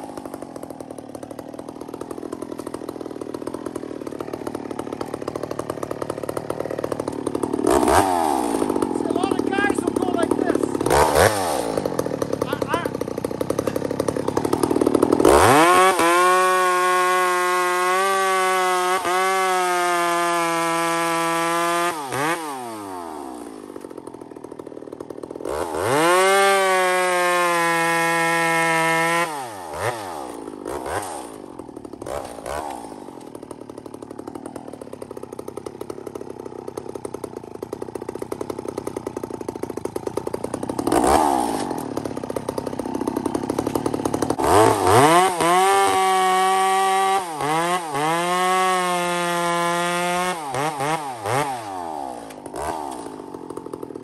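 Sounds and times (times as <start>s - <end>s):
chainsaw cutting firewood: 0.0s - 54.0s.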